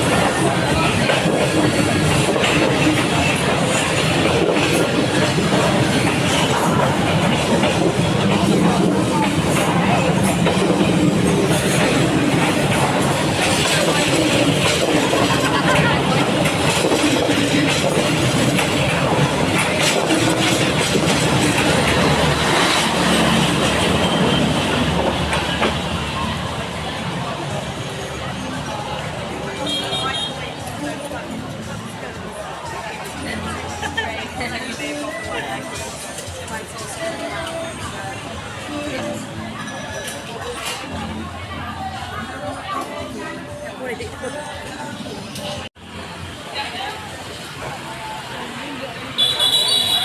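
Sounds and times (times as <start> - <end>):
train passing: 0.0 - 50.0.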